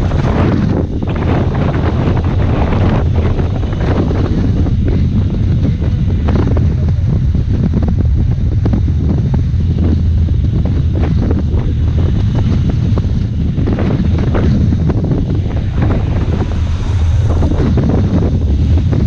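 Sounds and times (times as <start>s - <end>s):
vehicle rumble: 0.0s - 19.0s
wind buffeting microphone: 0.0s - 19.0s.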